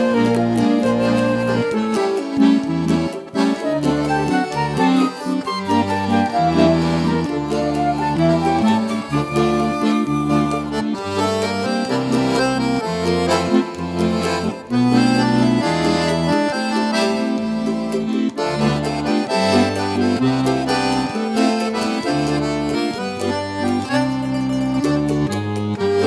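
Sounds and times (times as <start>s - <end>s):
accordion melody with bass notes: 0.0s - 26.0s.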